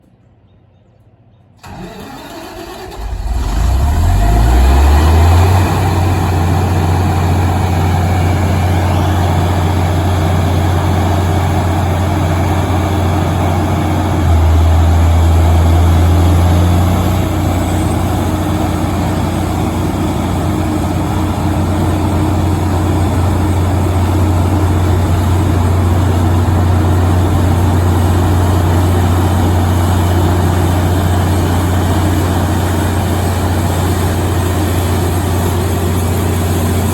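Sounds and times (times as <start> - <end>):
diesel generator engine drone: 1.6 - 36.9.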